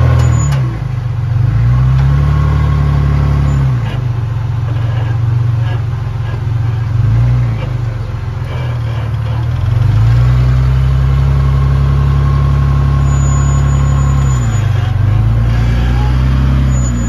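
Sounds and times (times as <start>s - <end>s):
buggy engine revving under load: 0.0s - 17.0s.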